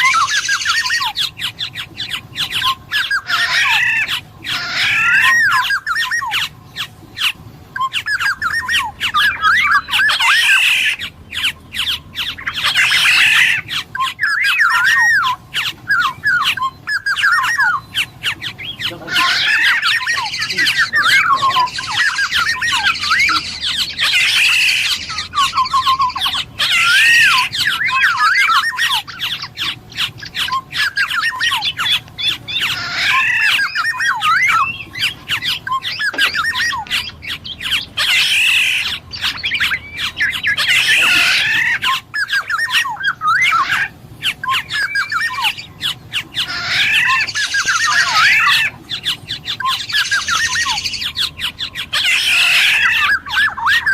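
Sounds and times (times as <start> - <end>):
bird squawking: 0.0 - 53.9
bird warbling and whistling: 0.0 - 53.9.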